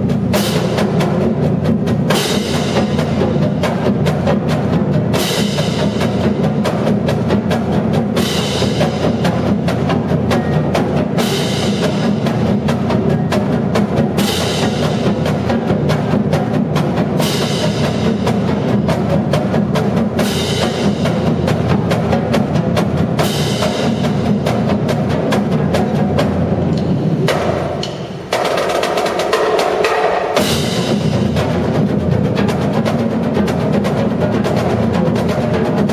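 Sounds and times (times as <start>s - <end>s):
bass drums: 0.0s - 28.4s, 30.4s - 35.9s
snare and tenor drums: 0.0s - 35.9s.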